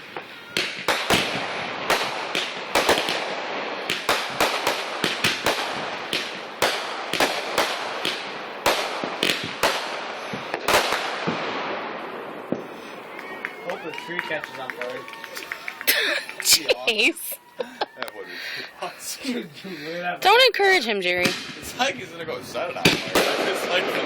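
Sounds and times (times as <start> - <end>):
fireworks bangs: 0.0 - 18.7, 20.2 - 24.0
fireworks crackling: 0.0 - 24.0.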